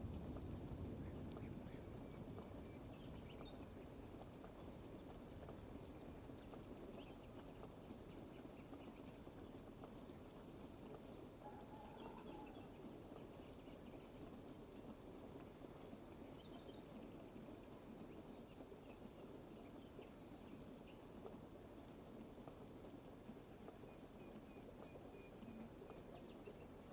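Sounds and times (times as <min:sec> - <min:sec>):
faint steady rain: 0:00.0 - 0:26.9.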